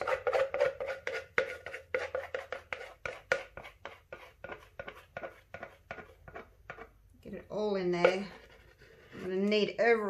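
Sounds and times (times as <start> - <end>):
stir stick scraping a plastic cup: 0.0 - 9.8.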